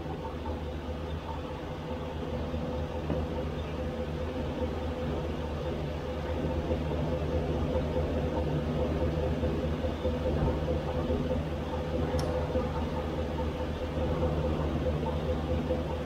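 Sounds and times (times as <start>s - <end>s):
truck engine idling with whine: 0.0s - 16.0s.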